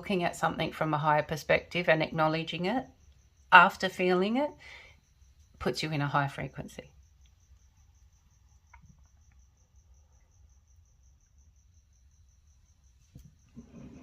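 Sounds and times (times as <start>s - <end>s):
faint cricket chirping: 0.0s - 14.0s.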